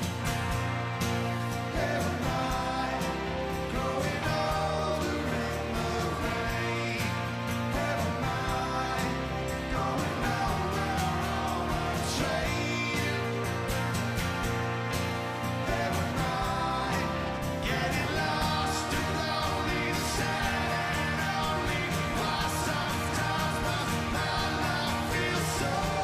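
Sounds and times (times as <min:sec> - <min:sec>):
live rock band playing: 0:00.0 - 0:26.0
person singing: 0:01.7 - 0:13.5, 0:15.6 - 0:26.0.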